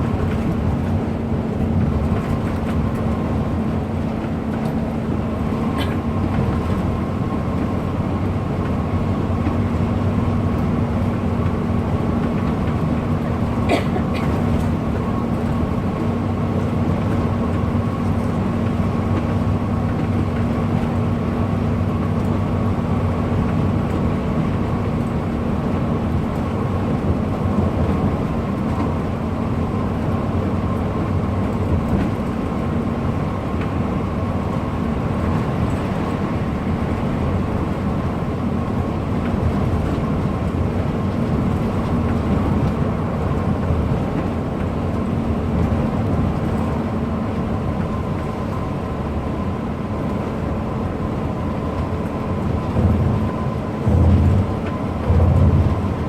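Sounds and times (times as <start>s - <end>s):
bus engine drone: 0.0s - 56.0s
road rumble: 0.0s - 56.0s.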